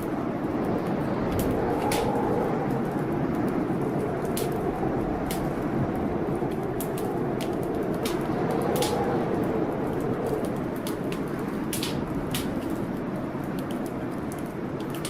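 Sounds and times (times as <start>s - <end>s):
wind howling against a window: 0.0s - 15.0s
wood fire crackling and popping: 0.0s - 15.0s.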